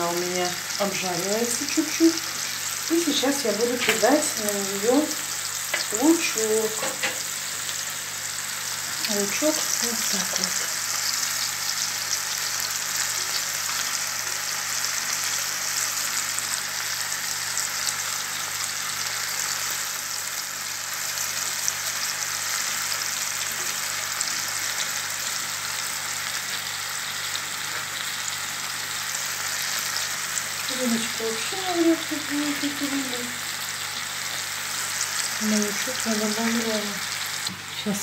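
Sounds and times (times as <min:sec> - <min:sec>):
fish and onion frying: 0:00.0 - 0:38.0.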